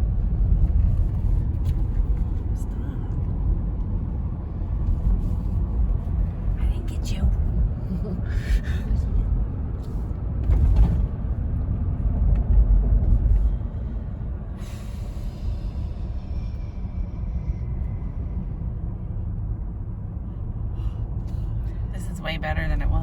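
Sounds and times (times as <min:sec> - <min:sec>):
vehicle road and engine rumble: 0:00.0 - 0:23.0.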